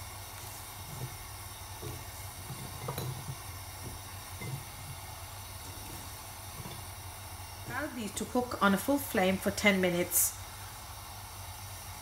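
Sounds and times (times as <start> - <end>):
gas hob flame hissing: 0.0 - 12.0
water boiling in a pan: 0.0 - 12.0.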